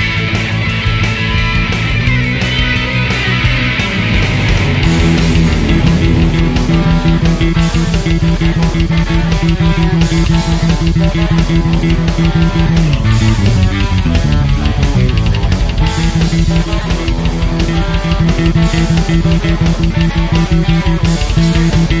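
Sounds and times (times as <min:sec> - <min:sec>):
hard rock music: 0:00.0 - 0:22.0.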